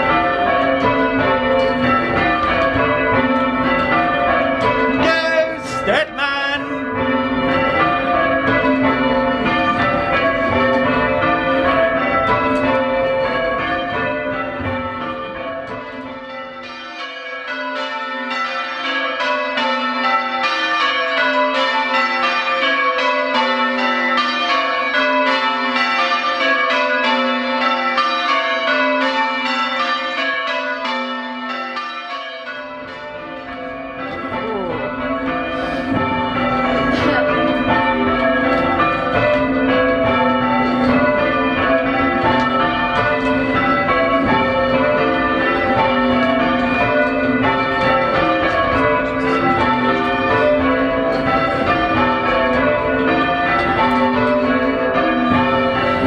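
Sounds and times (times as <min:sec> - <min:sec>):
church bells change ringing: 0:00.0 - 0:56.0.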